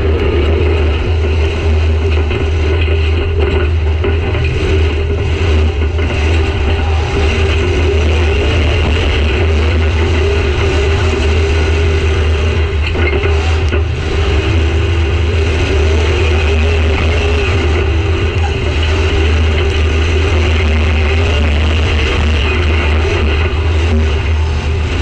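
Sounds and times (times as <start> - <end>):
car engine running loud: 0.0 - 25.0.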